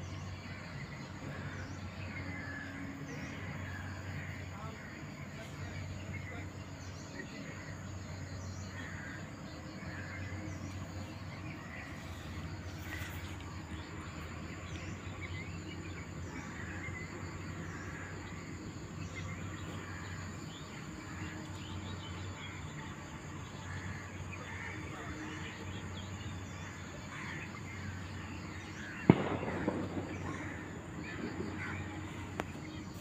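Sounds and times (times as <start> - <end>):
insects trilling: 0.0 - 33.0
low steady hum: 0.0 - 33.0.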